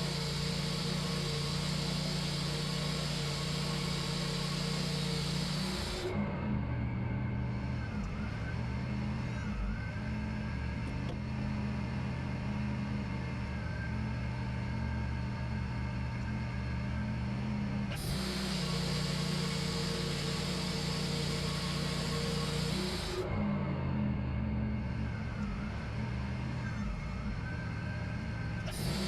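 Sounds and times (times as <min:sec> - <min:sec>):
band sawmill engine running: 0:00.0 - 0:29.0.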